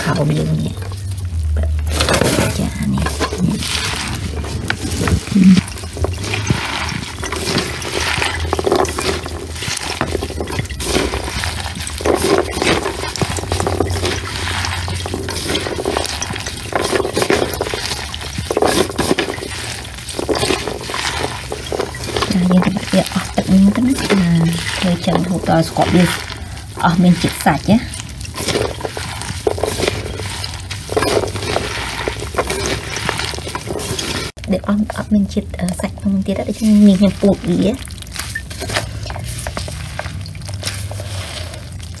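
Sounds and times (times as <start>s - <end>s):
low steady hum: 0.0s - 42.0s
wet squishing of fruit: 0.0s - 42.0s
small crackles of seeds bursting: 0.6s - 35.0s, 35.7s - 42.0s.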